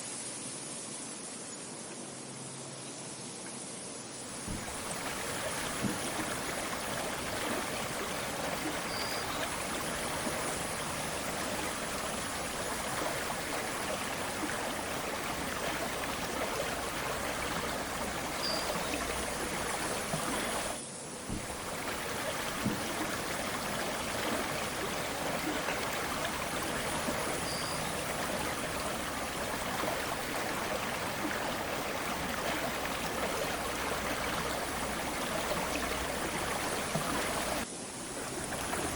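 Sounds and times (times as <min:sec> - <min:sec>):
river water rushing: 0:04.2 - 0:38.9.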